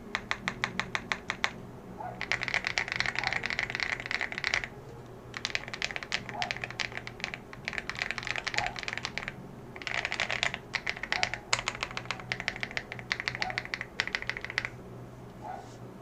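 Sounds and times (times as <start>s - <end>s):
fast mechanical keyboard typing: 0.0s - 4.7s, 5.3s - 14.8s
faint hum: 0.0s - 16.0s.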